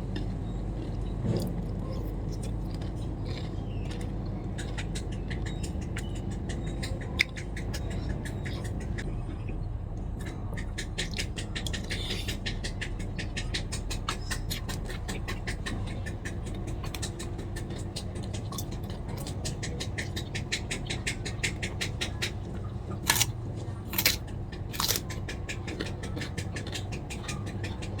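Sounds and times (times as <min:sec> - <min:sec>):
chewing crunchy food: 0:00.0 - 0:09.6, 0:10.2 - 0:28.0
low hum: 0:00.0 - 0:26.1.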